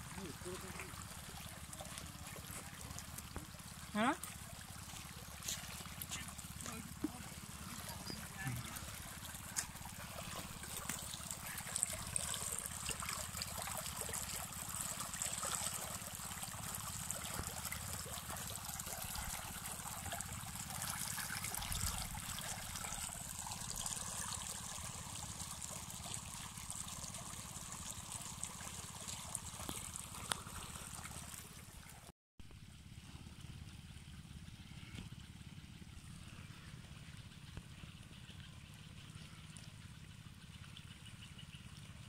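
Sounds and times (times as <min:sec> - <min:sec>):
water splashing from a hose: 0:00.0 - 0:40.5.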